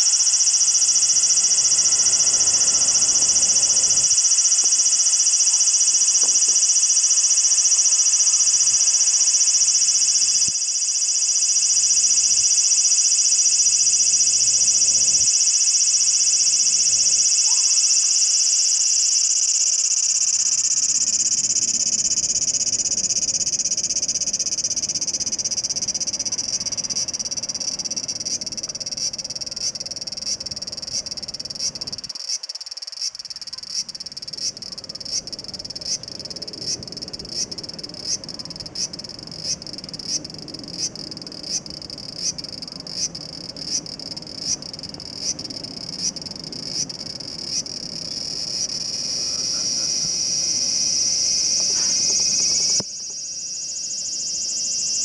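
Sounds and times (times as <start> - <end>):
cicada buzzing: 0.0 - 55.0.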